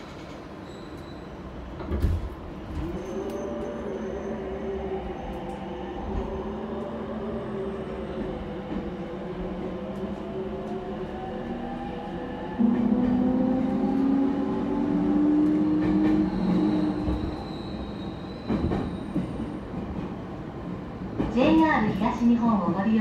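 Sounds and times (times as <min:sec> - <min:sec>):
train rolling rumble: 0:00.0 - 0:23.0.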